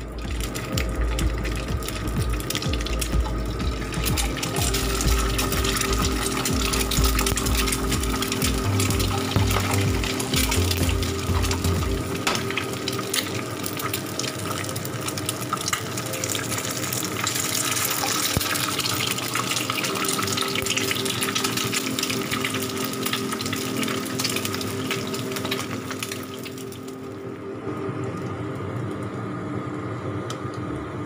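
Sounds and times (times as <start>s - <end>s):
eggs sizzling in hot oil: 0.0s - 27.1s.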